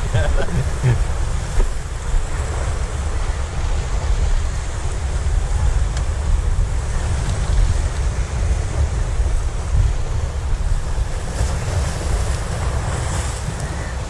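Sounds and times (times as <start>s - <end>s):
waves breaking on rocks: 0.0s - 14.0s
wind rumbling on microphone: 0.0s - 14.0s.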